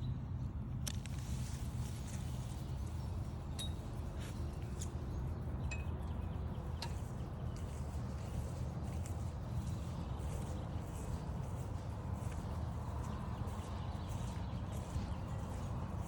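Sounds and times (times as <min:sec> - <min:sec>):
footsteps on trail: 0:00.9 - 0:16.0.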